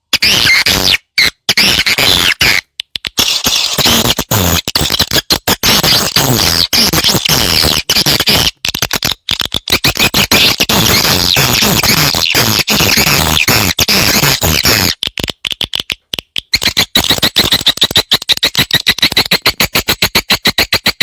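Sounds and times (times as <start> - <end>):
swiftlets twittering and clicking: 0.2 - 21.0.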